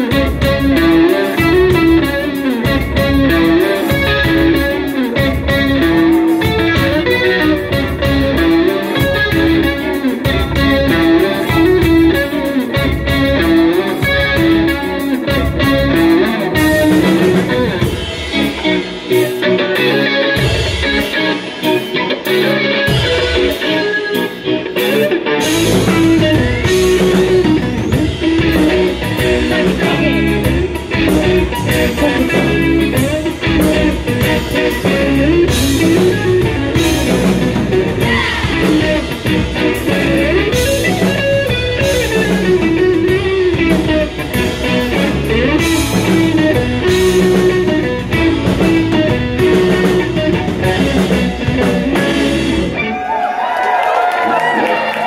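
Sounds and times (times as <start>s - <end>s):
electric guitar melody: 0.0s - 55.0s
instrumental rock band: 0.0s - 55.0s.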